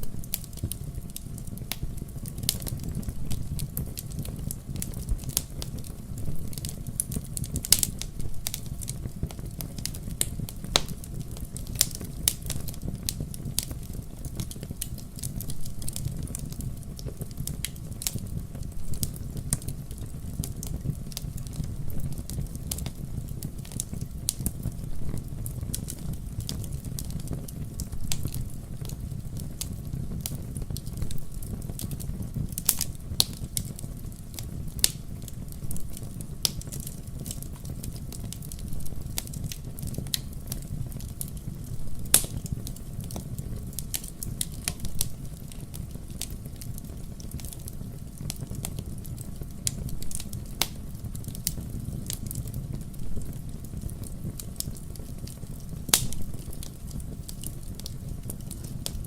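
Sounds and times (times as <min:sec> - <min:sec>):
fire crackles and pops: 0:00.0 - 0:59.0
fireplace fire rumbling: 0:00.0 - 0:59.0.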